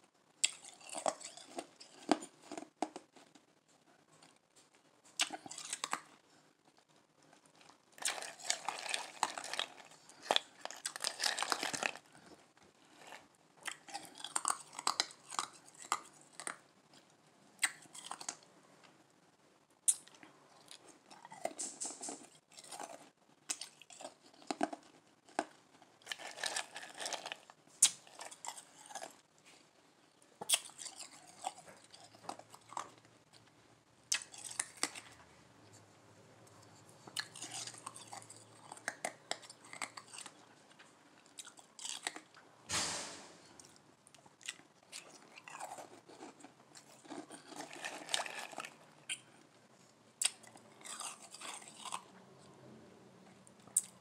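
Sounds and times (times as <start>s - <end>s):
ice cubes being chewed: 0.4s - 3.4s, 5.1s - 18.4s, 19.8s - 29.6s, 30.3s - 35.3s, 36.5s - 42.4s, 43.6s - 49.6s, 50.2s - 52.2s, 53.2s - 54.0s.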